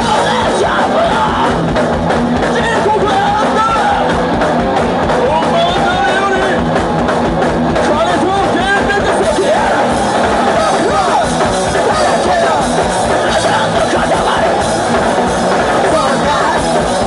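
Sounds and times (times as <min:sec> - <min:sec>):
distorted guitar with bending notes: 0:00.0 - 0:17.0
fast drums: 0:00.0 - 0:17.0.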